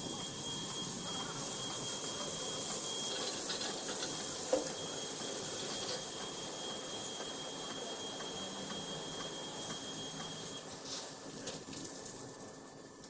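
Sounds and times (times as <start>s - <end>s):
car wash spraying water: 0.0s - 10.6s
thin high whine: 0.0s - 10.7s.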